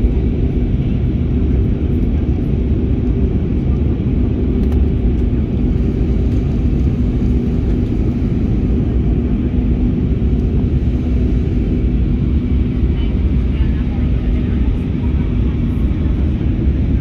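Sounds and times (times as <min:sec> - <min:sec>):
airliner cabin engine rumble: 0:00.0 - 0:17.0
steady hums: 0:00.0 - 0:17.0.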